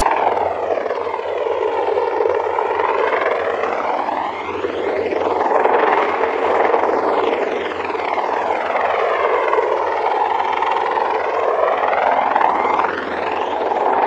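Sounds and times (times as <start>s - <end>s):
helicopter rotor and engine noise: 0.0s - 14.0s.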